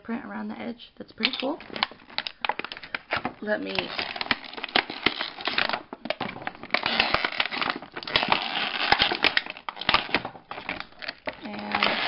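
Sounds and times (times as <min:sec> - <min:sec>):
plastic packaging crinkling: 0:01.2 - 0:12.0.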